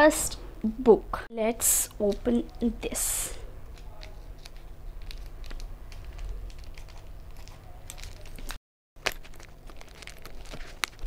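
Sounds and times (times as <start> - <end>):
wrapping crinkling and rustling: 1.8 - 11.0
scissors snipping packaging: 2.0 - 11.0.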